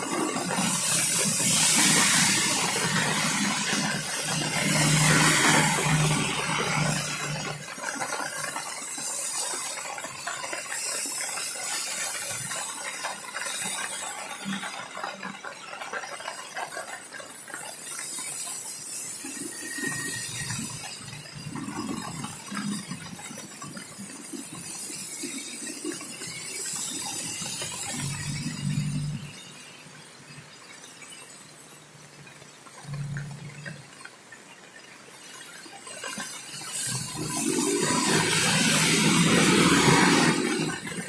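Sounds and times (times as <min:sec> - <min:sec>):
rain on wet street: 0:00.0 - 0:41.0
vehicles passing on wet road: 0:00.0 - 0:41.0.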